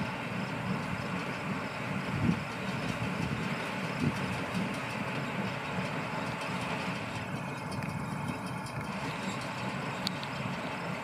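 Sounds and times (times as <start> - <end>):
hay baler running: 0.0 - 11.0
tractor engine: 0.0 - 11.0.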